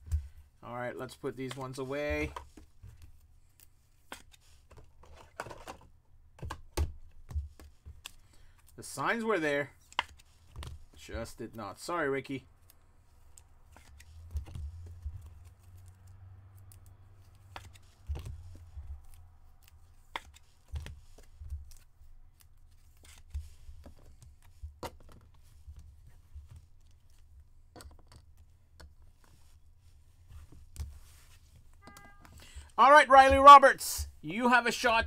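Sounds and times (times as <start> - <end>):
trading cards being handled: 0.0 - 35.0.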